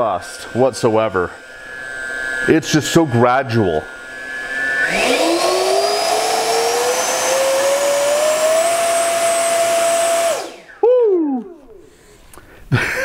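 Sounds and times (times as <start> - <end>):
electric ducted fan whine: 0.0 - 13.0.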